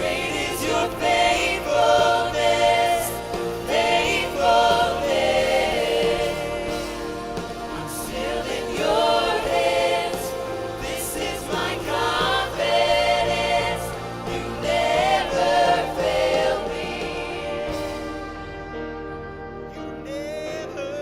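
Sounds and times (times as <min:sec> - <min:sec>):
group singing gospel: 0:00.0 - 0:19.0
held instrumental accompaniment: 0:00.0 - 0:21.0.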